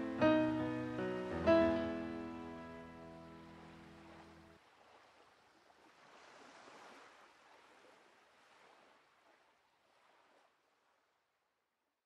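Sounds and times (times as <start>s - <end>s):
faint sea surf: 0.0s - 10.6s.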